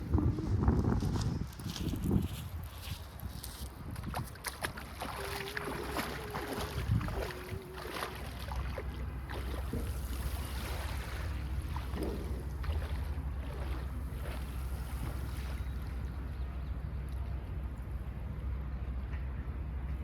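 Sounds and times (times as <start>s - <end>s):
wind rumbling on microphone: 0.0s - 18.4s.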